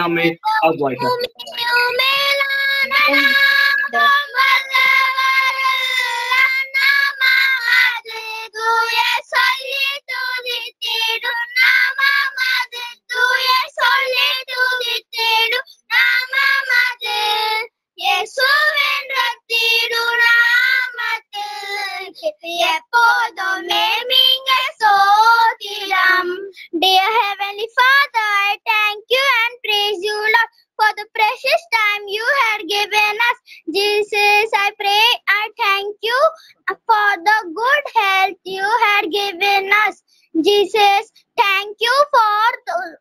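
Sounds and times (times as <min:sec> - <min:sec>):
child singing: 0:00.0 - 0:43.0.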